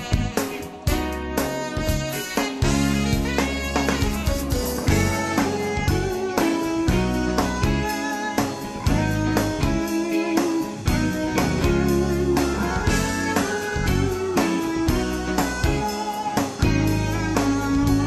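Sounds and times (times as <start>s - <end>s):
guitar music with drum beat: 0.0s - 18.0s.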